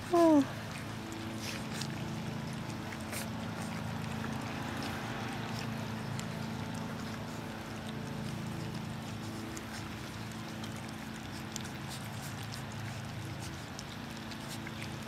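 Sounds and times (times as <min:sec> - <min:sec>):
puppies eating from a pan: 0:00.0 - 0:15.0.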